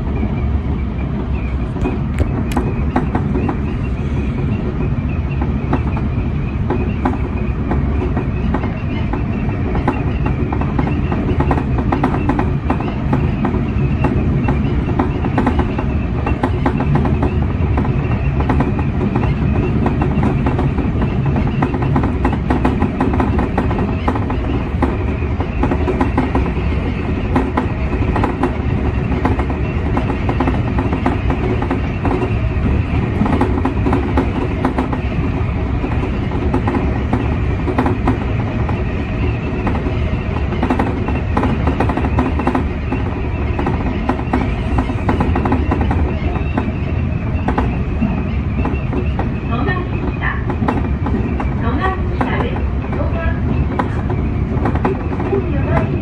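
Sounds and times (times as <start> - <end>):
train wheels rumbling on rails: 0.0 - 56.0
wheels clicking over rail joints: 0.7 - 56.0.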